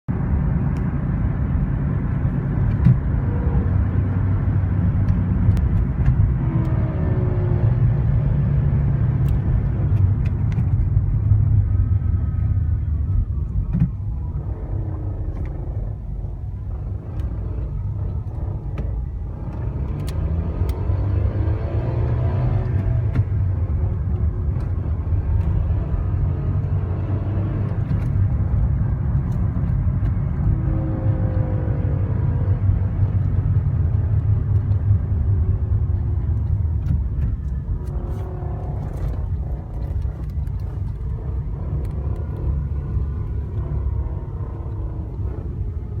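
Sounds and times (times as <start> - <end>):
car engine low rumble: 0.0 - 46.0.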